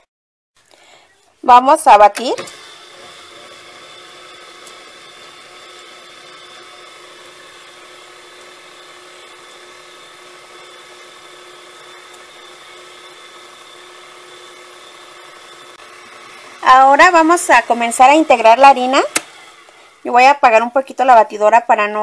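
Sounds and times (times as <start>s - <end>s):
electric mixer whine: 2.2s - 21.0s
whisk beating batter in a bowl: 2.6s - 20.6s.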